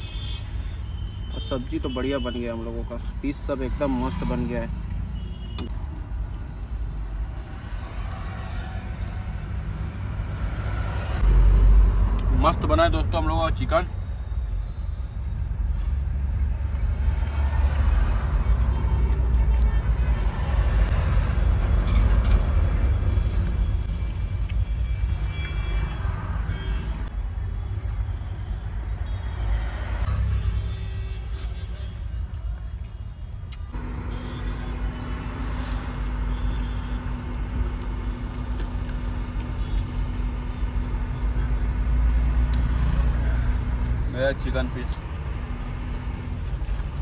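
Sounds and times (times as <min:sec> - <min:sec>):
road vehicle rumble: 0:00.0 - 0:47.0.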